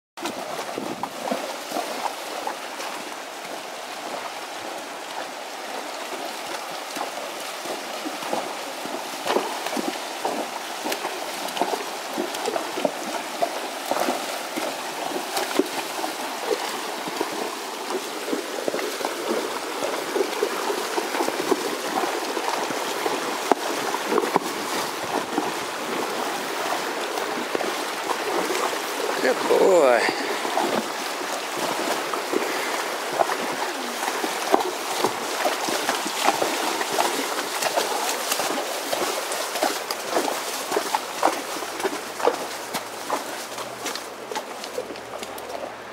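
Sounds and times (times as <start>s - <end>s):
horses wading through water: 0.2s - 45.9s
stream rushing over rocks: 0.2s - 45.9s.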